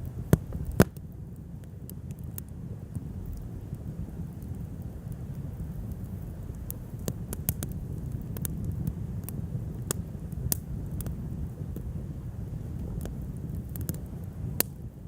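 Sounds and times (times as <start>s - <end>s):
fire low rumble: 0.0s - 15.0s
wood bonfire crackling: 0.0s - 15.0s.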